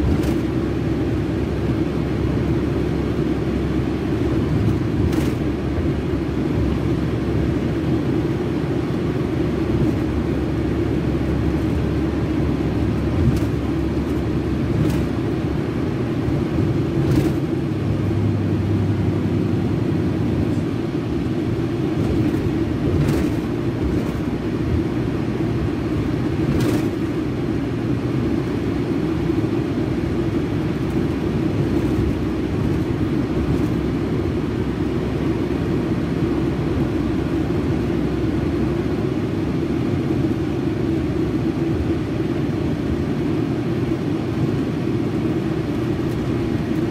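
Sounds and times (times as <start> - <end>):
diesel bus engine droning: 0.0 - 46.9.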